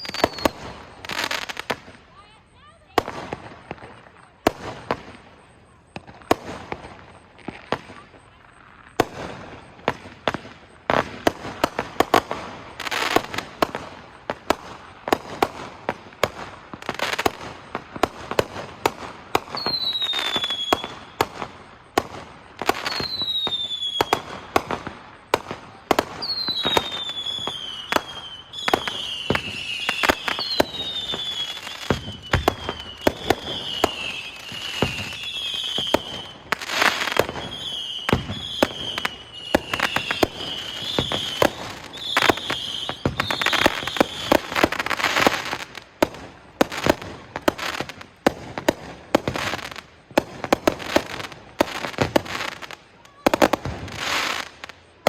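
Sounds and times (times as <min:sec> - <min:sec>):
falling firework whistles: 0:00.0 - 0:55.0
fireworks bangs and pops: 0:00.0 - 0:55.0.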